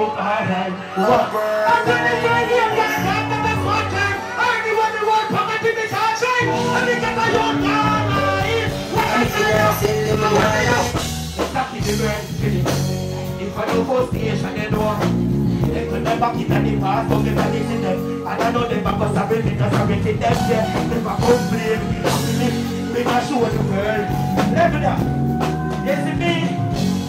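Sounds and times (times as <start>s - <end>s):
backing track with strong bass: 0.0s - 27.0s
deejay vocals on microphone: 0.0s - 27.0s.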